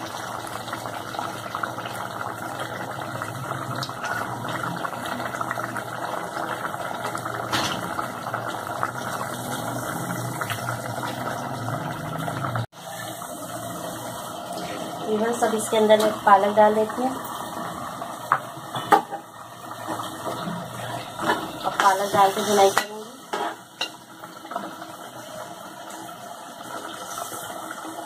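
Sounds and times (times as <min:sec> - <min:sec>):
curry boiling and bubbling: 0:00.0 - 0:28.0.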